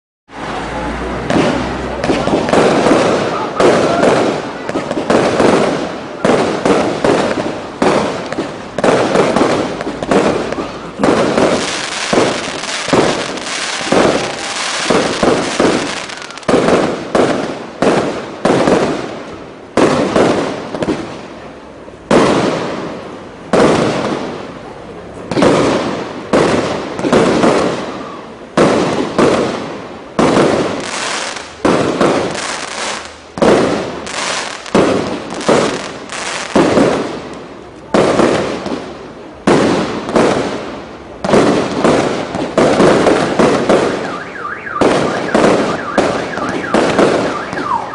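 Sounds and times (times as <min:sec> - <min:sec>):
fireworks bursting with crackle: 0:00.3 - 0:47.9.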